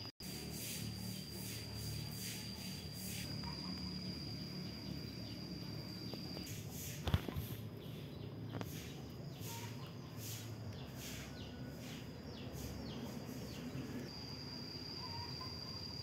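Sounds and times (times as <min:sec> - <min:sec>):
high-pitched insect drone: 0:00.2 - 0:07.7, 0:08.5 - 0:16.0
bird chirps: 0:00.6 - 0:16.0.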